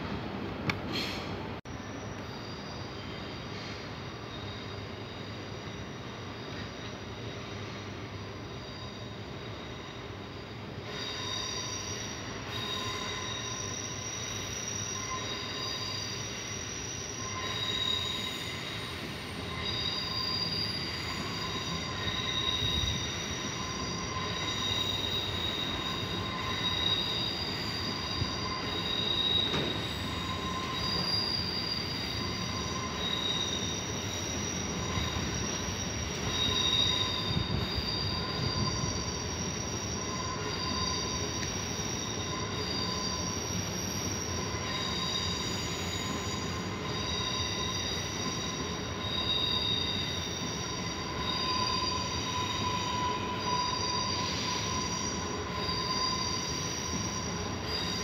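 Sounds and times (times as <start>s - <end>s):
low train rumble: 0.0s - 58.0s
train wheels squealing on rails: 0.0s - 58.0s.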